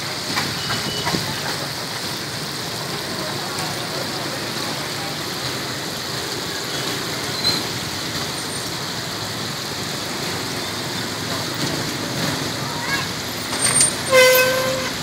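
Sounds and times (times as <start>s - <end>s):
hot oil sizzling in deep fryer: 0.0s - 15.0s
roadside traffic: 0.0s - 15.0s.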